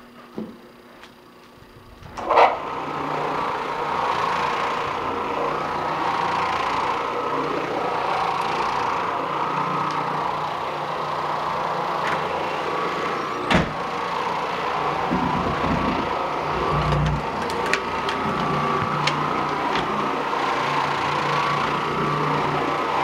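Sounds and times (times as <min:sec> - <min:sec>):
floor machine motor hum: 0:00.0 - 0:23.0.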